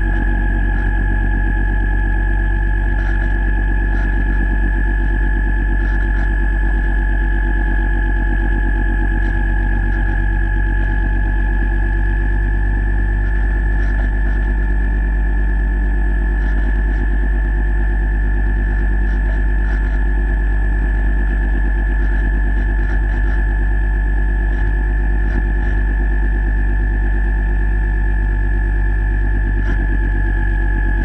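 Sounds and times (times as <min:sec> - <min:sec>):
electric motor whine underwater: 0:00.0 - 0:31.0
low hum: 0:00.0 - 0:31.0.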